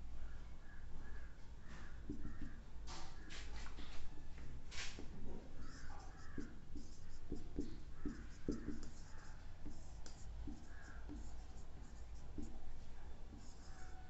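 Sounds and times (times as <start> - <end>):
marker scratching on whiteboard: 1.6 - 3.8, 4.8 - 14.0.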